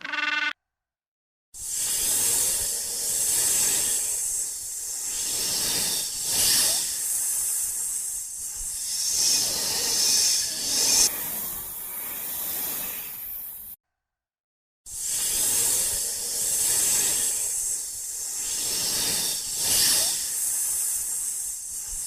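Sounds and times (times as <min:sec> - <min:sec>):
animal hissing: 0:01.6 - 0:13.6, 0:15.0 - 0:22.0.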